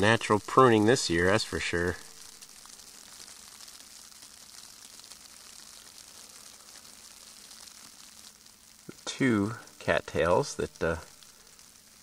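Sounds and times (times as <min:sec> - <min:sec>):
wet snow falling hiss: 0:00.0 - 0:12.0.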